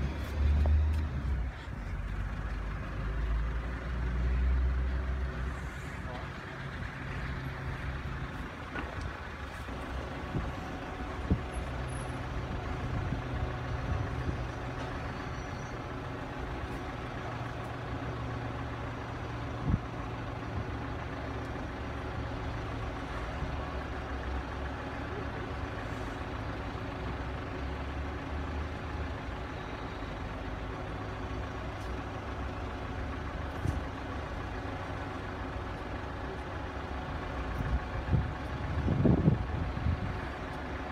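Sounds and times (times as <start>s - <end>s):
low vehicle rumble: 0.0s - 40.9s.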